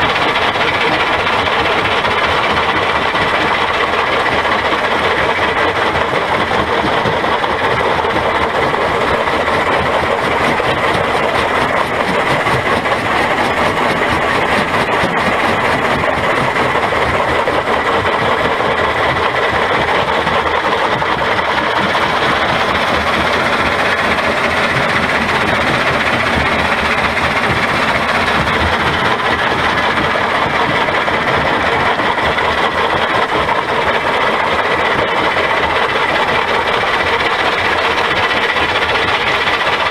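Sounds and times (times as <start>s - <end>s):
conveyor machinery noise: 0.0s - 39.9s.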